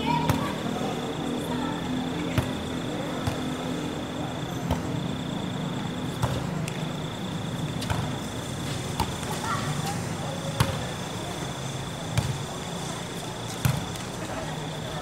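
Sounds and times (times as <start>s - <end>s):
background chatter: 0.0s - 15.0s.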